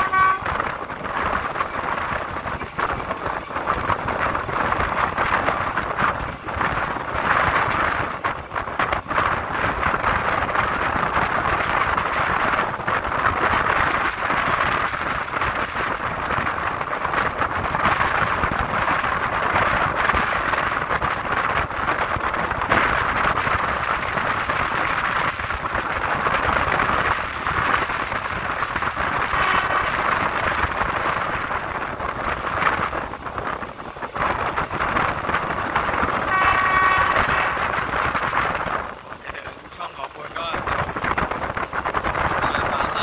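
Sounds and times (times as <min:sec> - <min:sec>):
train wheels rumbling on rails: 0:00.0 - 0:43.0
wind rushing past: 0:00.0 - 0:43.0.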